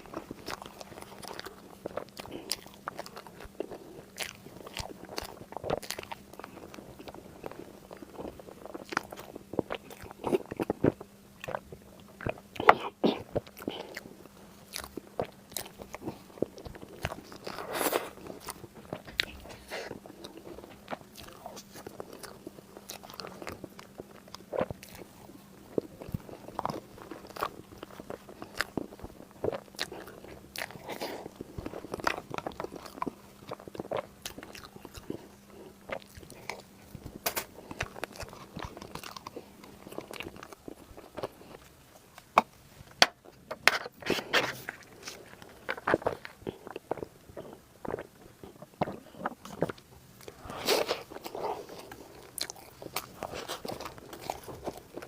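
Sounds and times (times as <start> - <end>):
crunching and wet chewing: 0.0 - 55.0.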